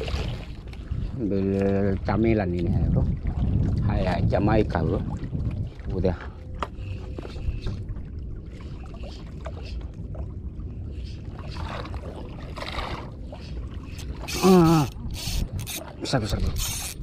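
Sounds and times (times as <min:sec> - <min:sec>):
water lapping against boat hull: 0:00.0 - 0:17.0
water splashing: 0:00.0 - 0:17.0
steady low rumble: 0:02.0 - 0:15.6.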